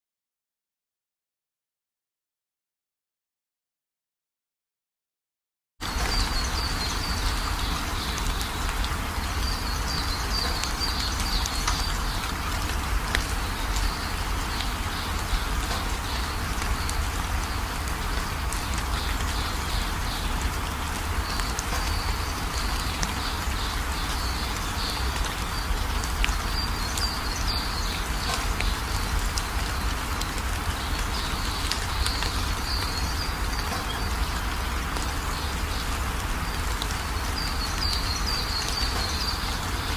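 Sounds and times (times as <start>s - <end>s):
rain-like hiss: 5.8s - 39.9s.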